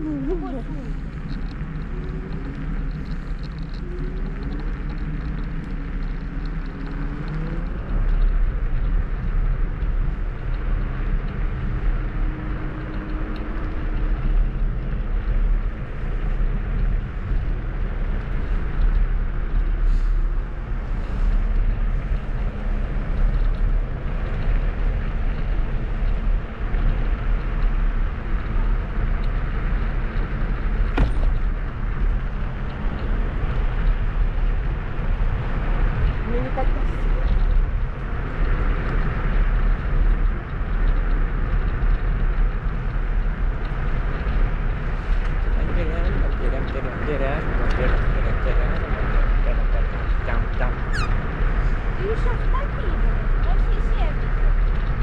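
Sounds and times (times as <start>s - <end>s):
tyres rolling over path: 0.0s - 55.0s
wind on microphone: 0.0s - 55.0s.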